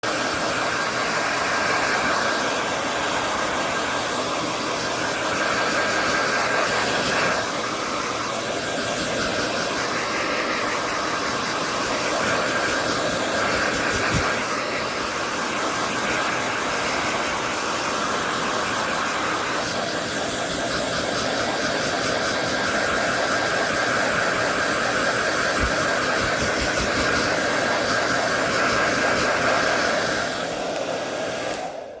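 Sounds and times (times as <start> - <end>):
hair dryer blowing: 0.0 - 32.0.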